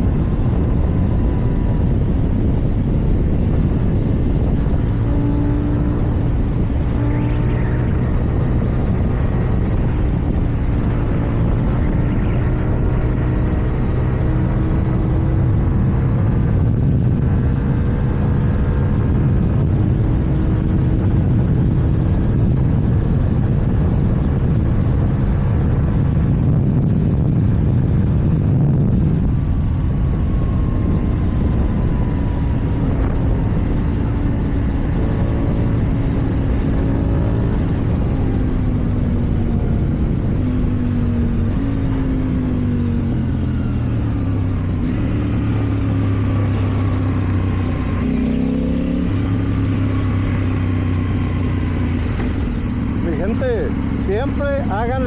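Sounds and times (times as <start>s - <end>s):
motorcycle engine running: 0.0s - 55.0s
wind rumble: 0.0s - 55.0s.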